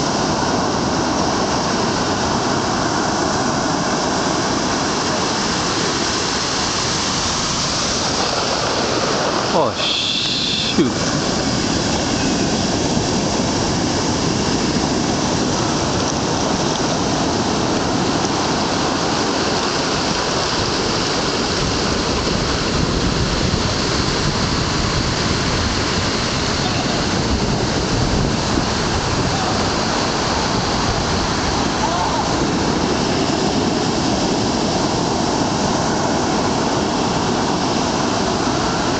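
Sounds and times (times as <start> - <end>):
heavy surf breaking: 0.0 - 38.9.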